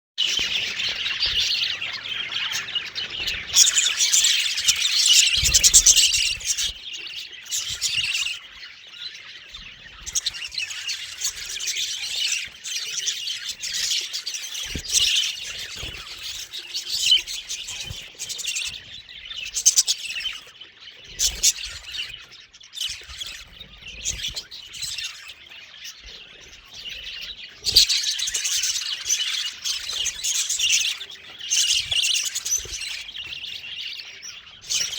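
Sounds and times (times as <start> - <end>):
budgerigars chirping and chattering: 0.2 - 34.9.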